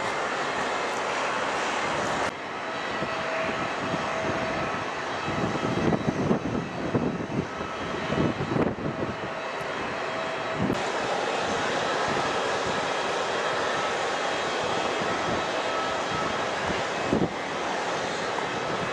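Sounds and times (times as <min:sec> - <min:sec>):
jet engines roaring with whine: 0:00.0 - 0:18.9
low gusts of noise: 0:00.0 - 0:18.9.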